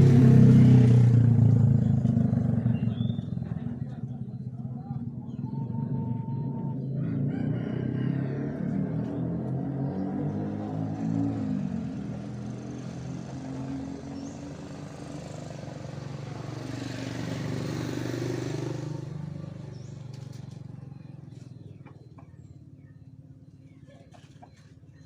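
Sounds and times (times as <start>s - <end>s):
passing traffic engines: 0.0s - 23.6s.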